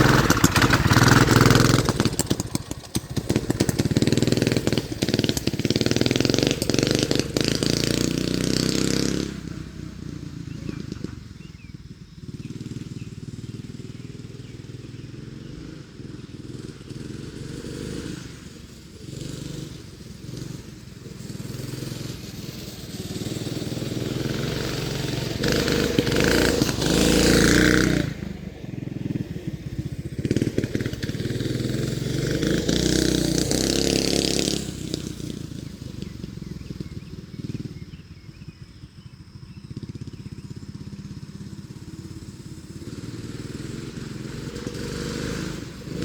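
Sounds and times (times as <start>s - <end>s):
mini bike engine revving: 0.0s - 46.0s.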